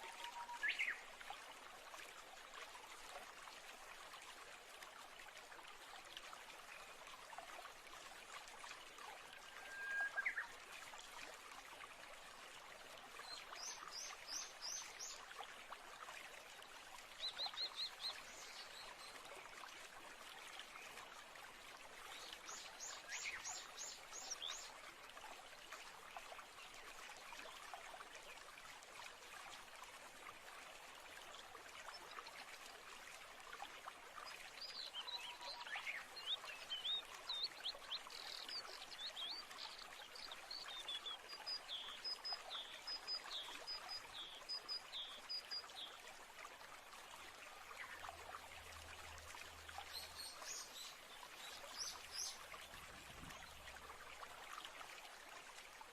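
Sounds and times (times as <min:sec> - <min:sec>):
running water: 0:00.0 - 0:55.9.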